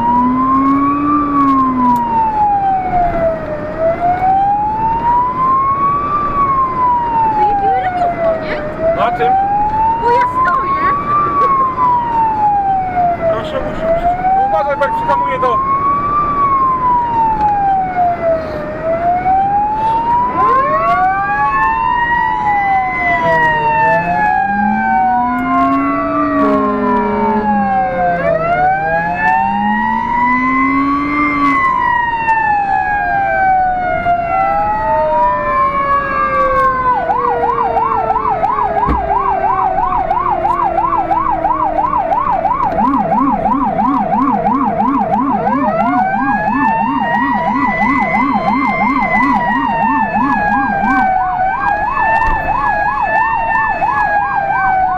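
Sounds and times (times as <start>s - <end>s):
fire engine siren wailing: 0.0s - 54.9s
low-pitched rumbler siren: 0.0s - 54.9s.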